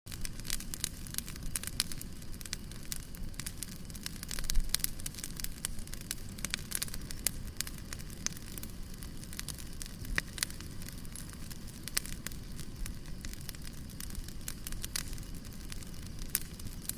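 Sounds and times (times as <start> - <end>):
bonfire crackling and popping: 0.1 - 16.9
low rush of flame: 0.1 - 16.9.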